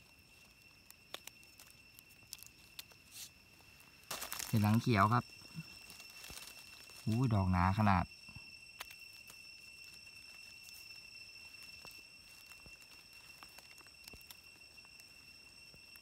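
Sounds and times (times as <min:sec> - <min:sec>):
hands clicking in dry leaves: 0:00.0 - 0:08.0, 0:08.7 - 0:16.0
high insect tone: 0:00.0 - 0:16.0.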